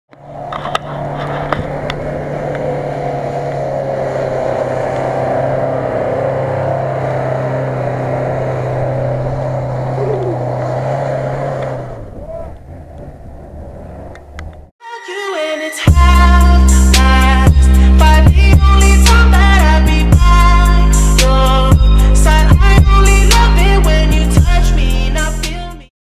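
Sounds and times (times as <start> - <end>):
engine droning: 0.1 - 14.7, 15.9 - 25.7.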